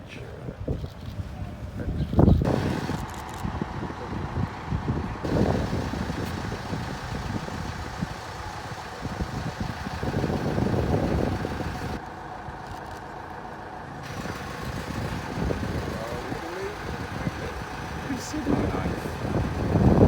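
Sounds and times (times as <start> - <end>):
wind buffeting microphone: 0.2 - 12.0, 14.1 - 20.0
vehicle engine idling: 0.8 - 20.0.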